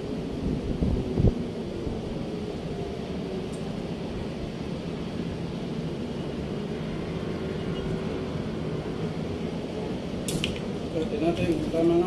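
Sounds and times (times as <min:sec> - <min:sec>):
machinery droning: 0:00.0 - 0:12.0.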